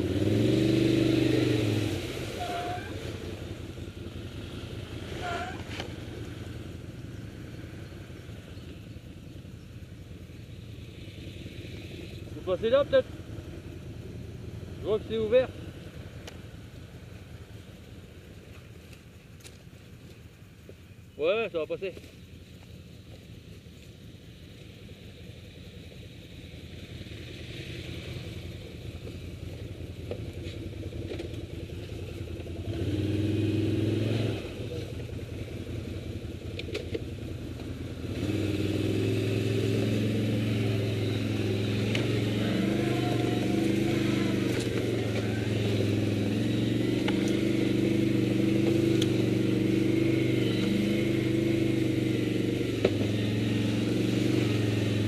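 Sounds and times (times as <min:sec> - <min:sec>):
quad bike engine running: 0:00.0 - 0:15.4, 0:22.0 - 0:55.0.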